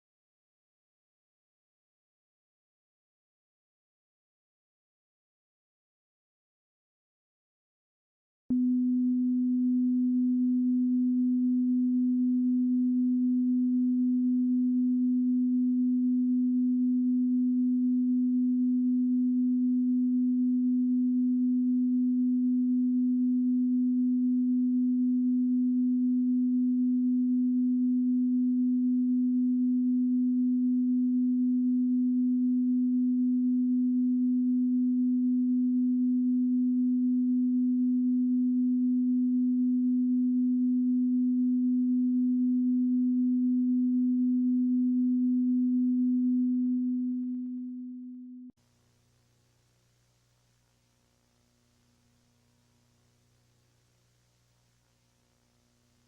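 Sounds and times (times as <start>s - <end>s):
low electronic sine tone: 8.5s - 56.0s.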